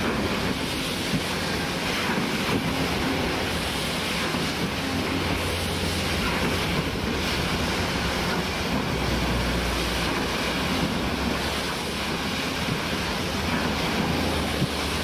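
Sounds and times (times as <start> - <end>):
diesel machinery running: 0.0 - 15.0
water rushing in channel: 0.0 - 15.0
wind buffeting microphone: 0.0 - 15.0.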